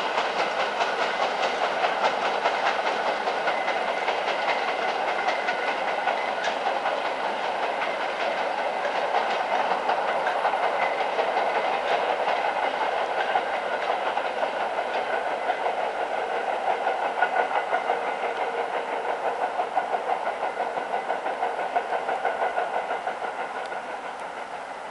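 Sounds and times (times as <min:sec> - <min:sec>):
train wheels clattering on rails: 0:00.0 - 0:24.9.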